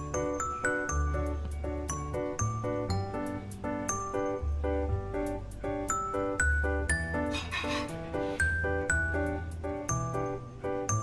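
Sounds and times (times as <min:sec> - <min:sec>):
light melodic background music: 0:00.0 - 0:11.0.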